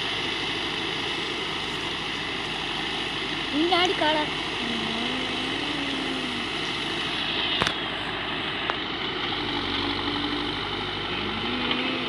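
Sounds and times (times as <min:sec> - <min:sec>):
diesel engine running: 0:00.0 - 0:12.0
faint wavering whine: 0:00.0 - 0:12.0.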